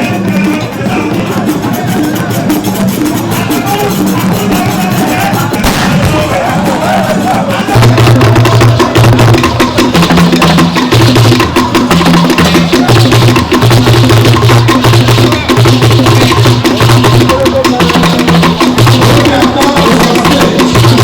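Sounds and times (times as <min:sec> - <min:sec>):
percussion music with clicking strikes: 0:00.0 - 0:21.0.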